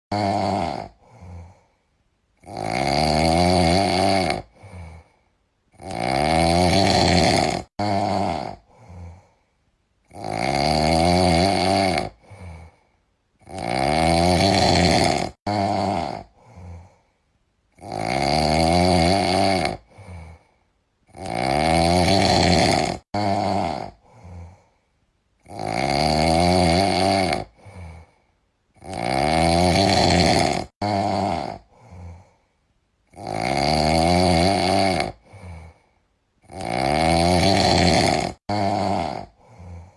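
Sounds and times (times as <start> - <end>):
person snoring loudly: 0.1 - 1.8, 2.4 - 9.4, 10.0 - 17.1, 17.7 - 24.8, 25.4 - 32.5, 33.1 - 39.9.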